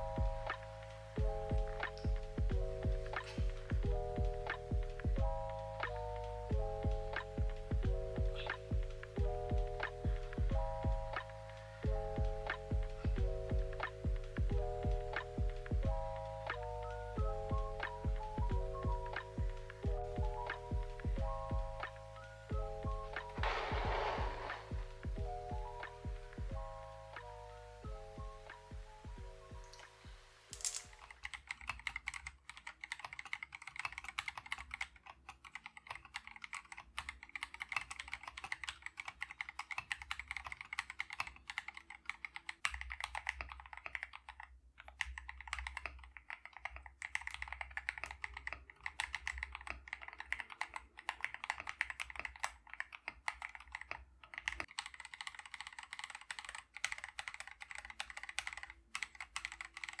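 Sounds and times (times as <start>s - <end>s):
mechanical keyboard typing: 0.0s - 29.9s, 30.6s - 60.0s.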